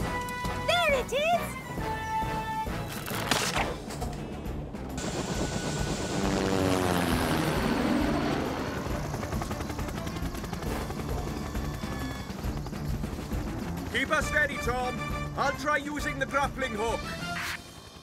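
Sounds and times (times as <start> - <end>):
helicopter rotor chopping: 0.0 - 18.0.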